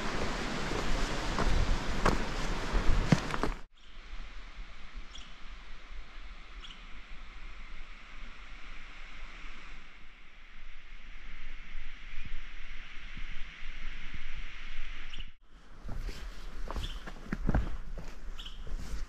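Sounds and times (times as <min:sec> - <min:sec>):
outdoor ambient hiss: 0:00.0 - 0:19.0.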